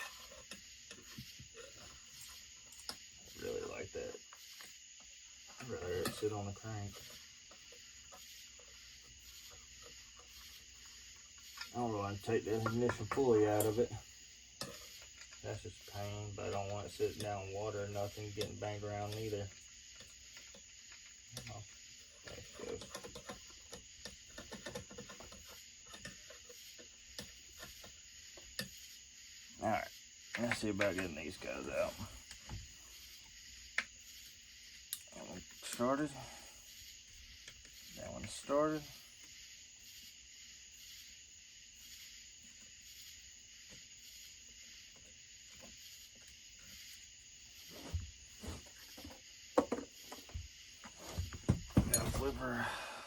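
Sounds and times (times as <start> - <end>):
faint high hiss: 0.0 - 22.8, 25.4 - 53.0.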